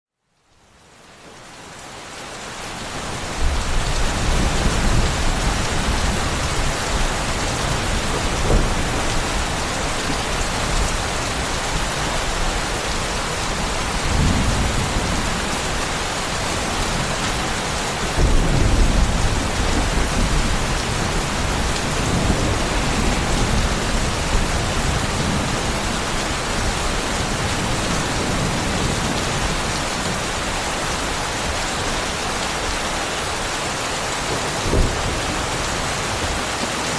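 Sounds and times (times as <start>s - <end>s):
heavy rain pouring: 0.5s - 36.9s.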